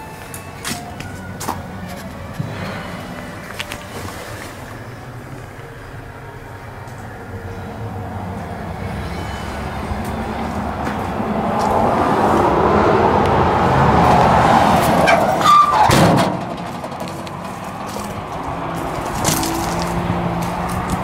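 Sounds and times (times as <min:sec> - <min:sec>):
motor vehicle passing by: 0:00.8 - 0:21.0.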